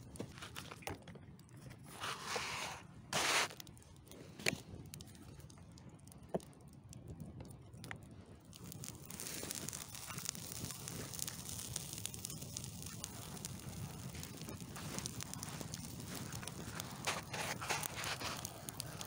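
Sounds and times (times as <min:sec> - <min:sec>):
flames crackling: 0:00.0 - 0:19.0.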